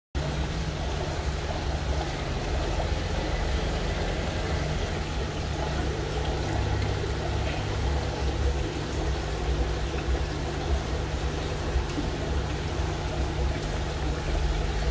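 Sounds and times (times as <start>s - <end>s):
aquarium pump humming: 0.2s - 14.9s
flowing water: 0.2s - 14.9s.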